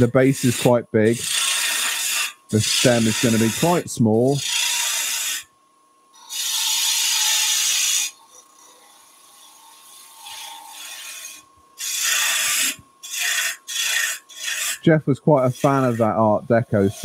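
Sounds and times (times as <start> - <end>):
lathe tool cutting wood hissing: 0.0 - 5.4, 6.2 - 17.0.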